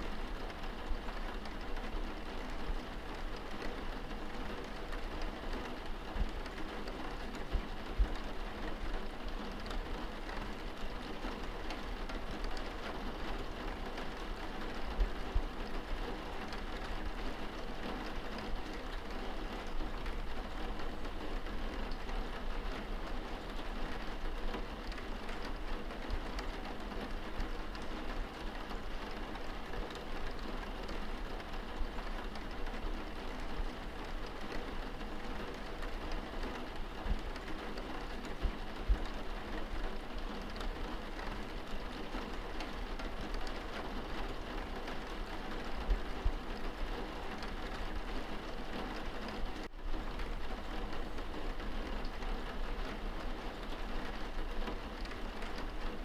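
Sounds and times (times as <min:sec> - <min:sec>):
rain pattering on window glass: 0:00.0 - 0:56.0
raindrop ticks: 0:04.6 - 0:56.0.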